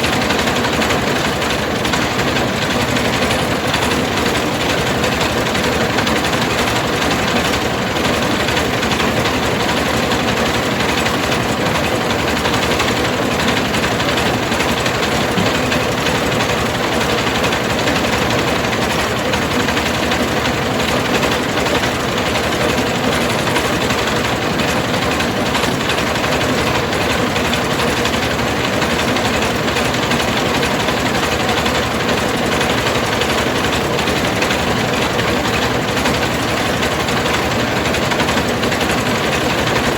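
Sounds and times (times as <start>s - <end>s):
rice mill machinery running: 0.0s - 39.9s.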